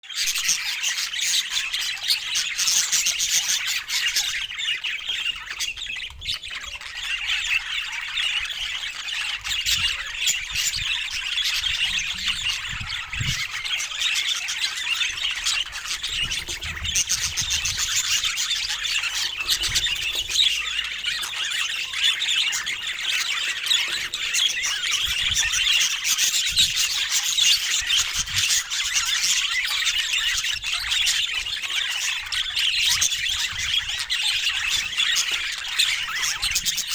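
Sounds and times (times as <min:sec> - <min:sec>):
budgerigars chattering and squawking: 0:00.0 - 0:36.9.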